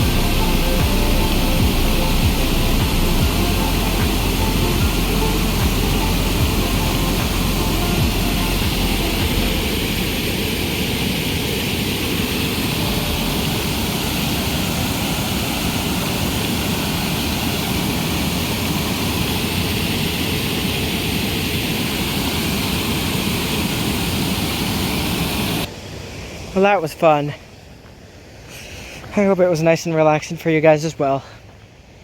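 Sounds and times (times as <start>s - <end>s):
waterfall rushing: 0.0s - 27.1s.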